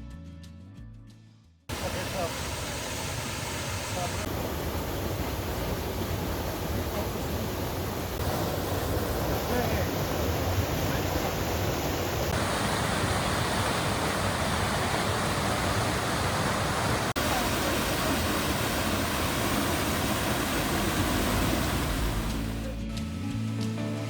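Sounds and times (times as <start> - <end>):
waterfall rushing: 1.7 - 22.8.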